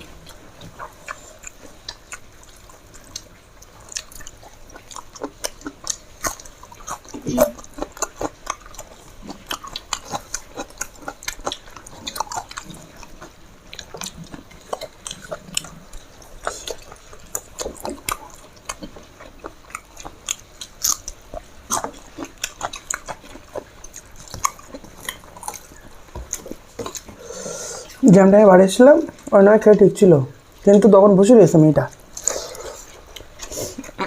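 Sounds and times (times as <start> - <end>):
person chewing food: 0.0 - 28.0, 31.9 - 34.0.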